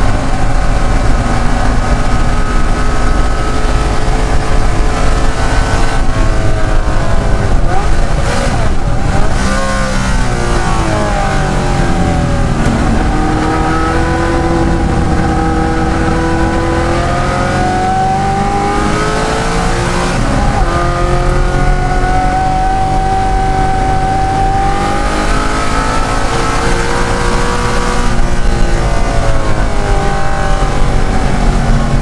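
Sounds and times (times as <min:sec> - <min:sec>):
racing engine at full throttle: 0:00.0 - 0:32.0.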